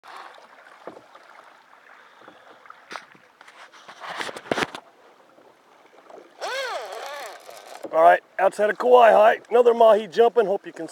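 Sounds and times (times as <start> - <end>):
water splashing against boat hull: 0.0 - 10.9.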